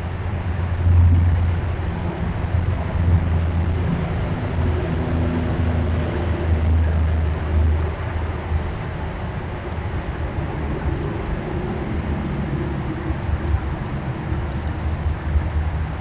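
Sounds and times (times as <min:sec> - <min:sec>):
deep hum: 0:00.0 - 0:16.0
traffic rumble: 0:00.0 - 0:16.0.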